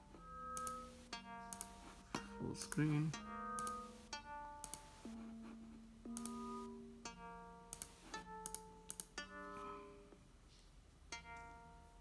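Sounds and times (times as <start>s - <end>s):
plucked synth notes: 0.0s - 10.1s.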